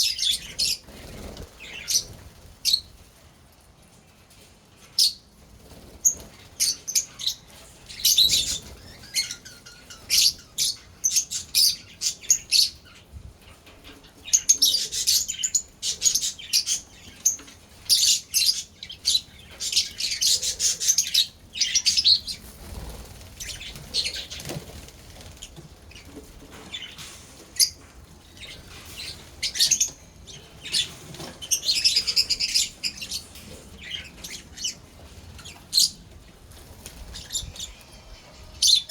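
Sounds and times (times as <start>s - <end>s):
lovebirds chirping: 0.0s - 3.0s, 5.0s - 38.9s.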